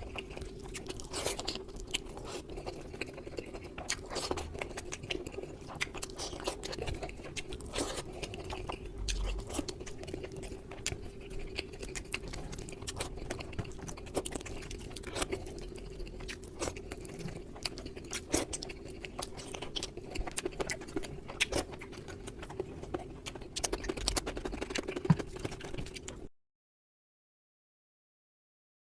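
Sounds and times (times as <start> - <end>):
person chewing food: 0.0 - 26.3
steady low hum: 0.0 - 26.3.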